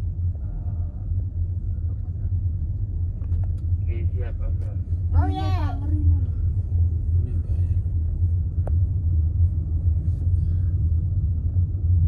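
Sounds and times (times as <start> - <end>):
vehicle rumble on the move: 0.0 - 12.0.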